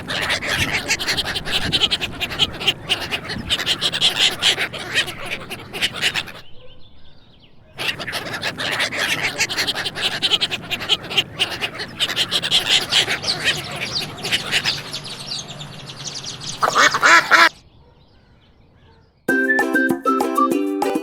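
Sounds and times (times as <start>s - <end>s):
flock of birds chattering: 0.0s - 19.1s.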